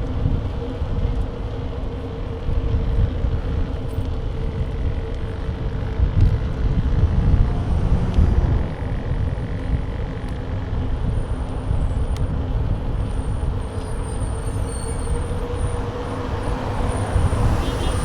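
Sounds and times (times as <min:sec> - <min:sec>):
wind rumbling over microphone: 0:00.0 - 0:18.0.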